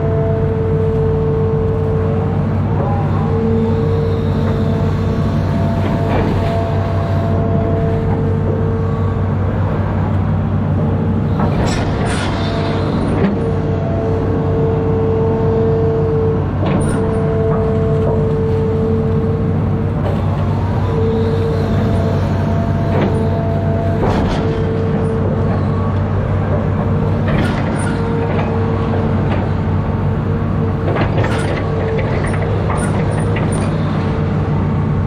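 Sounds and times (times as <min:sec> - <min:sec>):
diesel engine running: 0:00.0 - 0:35.0
high hydraulic whine: 0:00.0 - 0:35.0.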